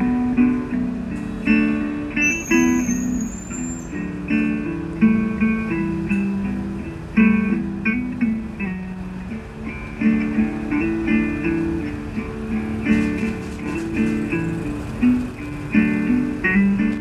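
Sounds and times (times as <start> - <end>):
guitar plucking a melody: 0.0 - 17.0.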